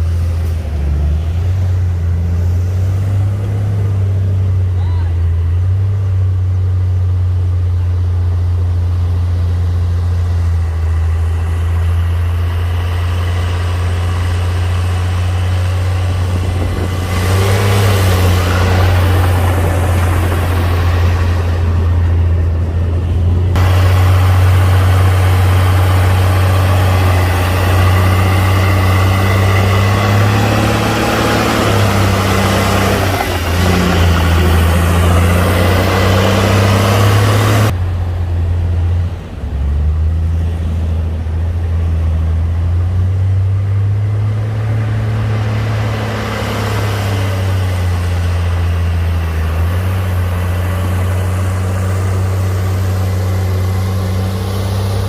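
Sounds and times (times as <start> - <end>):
loud rough noise: 0.0 - 43.2, 43.8 - 55.0
heavy diesel engine running: 0.0 - 55.0.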